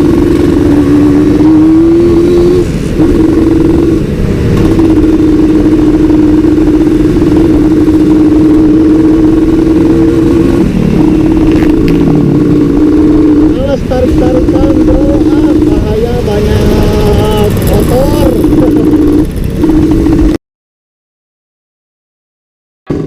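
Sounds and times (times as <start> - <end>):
two-stroke motorcycle engine revving: 0.0 - 20.4.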